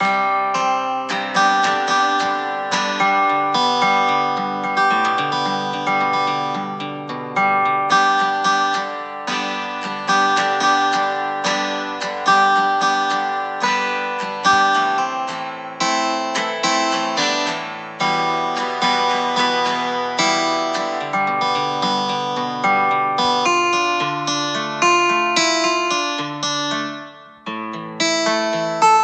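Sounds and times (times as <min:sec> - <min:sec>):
plucked acoustic guitar: 0:00.0 - 0:29.0.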